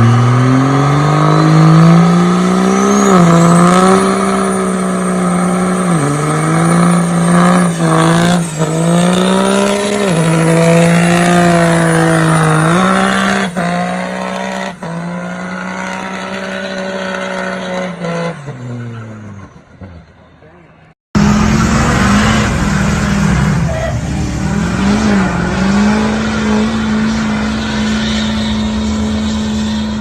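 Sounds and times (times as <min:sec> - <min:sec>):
diesel truck engine revving: 0:00.0 - 0:19.9, 0:21.1 - 0:30.0.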